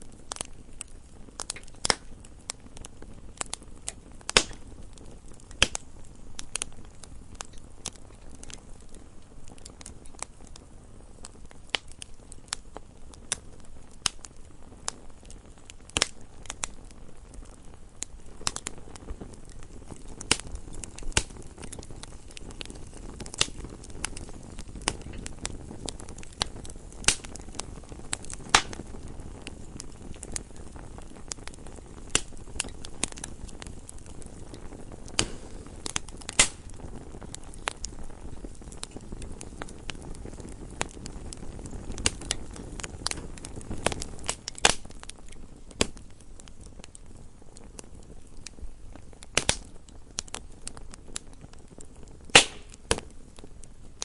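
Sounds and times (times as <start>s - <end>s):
flames rushing: 0.0s - 54.0s
wood fire crackling: 0.0s - 54.0s.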